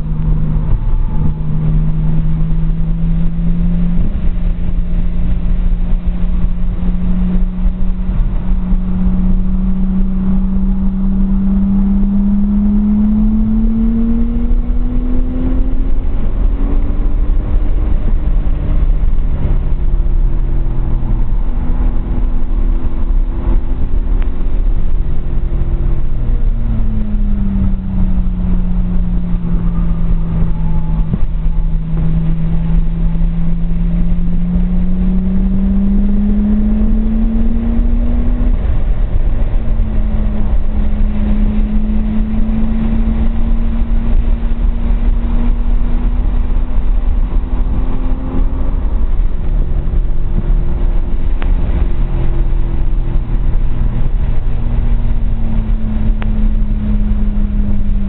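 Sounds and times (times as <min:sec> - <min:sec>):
car engine revving: 0:00.0 - 0:58.0
low road and wind rumble: 0:00.0 - 0:58.0.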